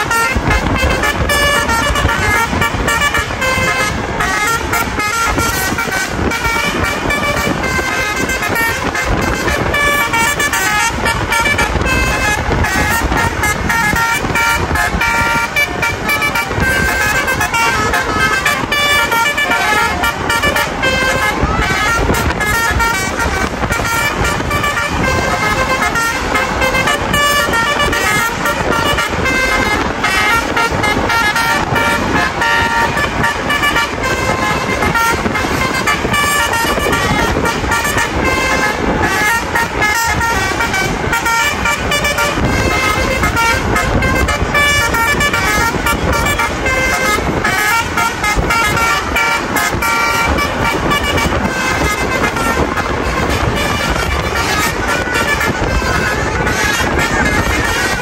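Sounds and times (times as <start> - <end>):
bus engines: 0.0 - 58.0
multi-tone musical air horns: 0.0 - 58.0
traffic: 0.0 - 58.0.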